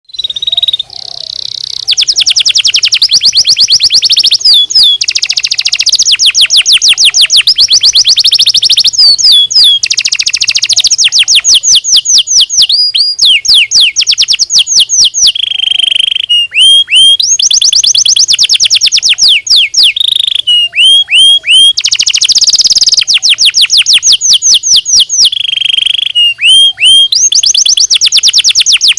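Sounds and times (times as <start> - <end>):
canary singing: 0.0 - 28.9.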